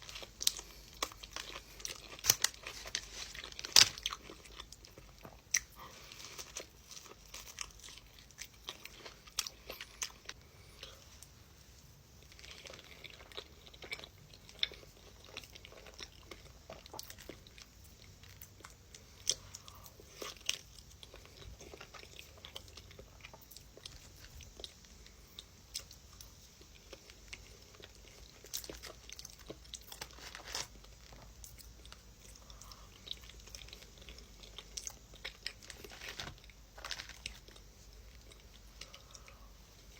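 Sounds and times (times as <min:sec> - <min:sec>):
person chewing crunchy food: 0:00.0 - 0:11.3, 0:12.1 - 0:39.9.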